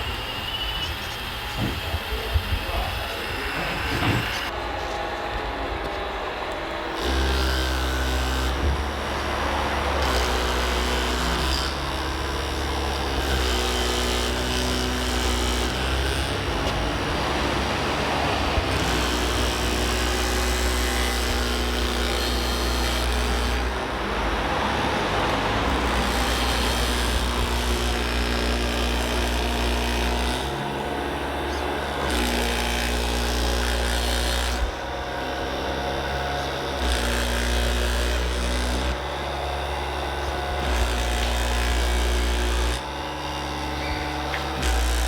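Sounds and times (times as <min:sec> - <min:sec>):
electric motors and hydraulic pumps: 0:00.0 - 0:45.0.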